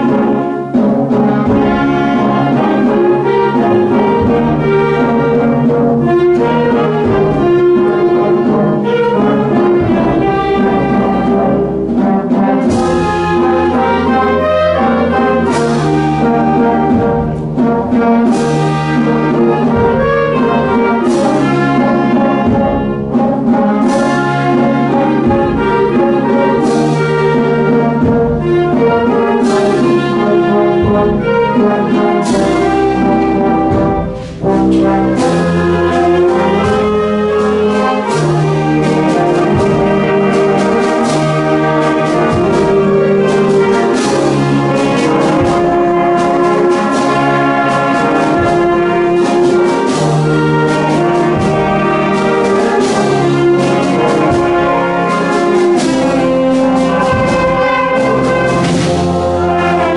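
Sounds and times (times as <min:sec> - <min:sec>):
wind band playing: 0:00.0 - 0:59.9.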